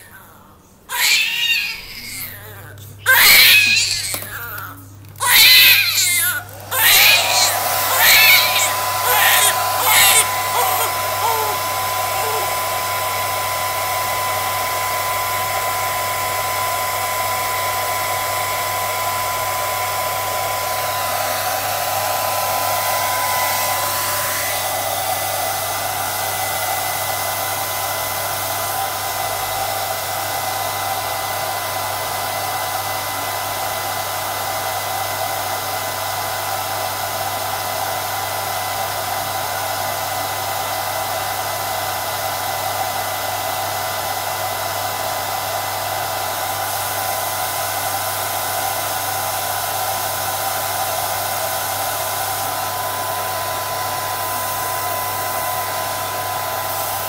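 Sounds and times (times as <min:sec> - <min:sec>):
hair dryer running: 0:00.9 - 0:02.4, 0:03.1 - 0:57.0.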